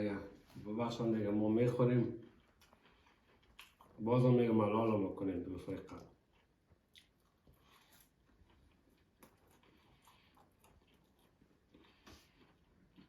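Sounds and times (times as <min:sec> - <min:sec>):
chewing crisp flatbread: 0:01.5 - 0:13.0.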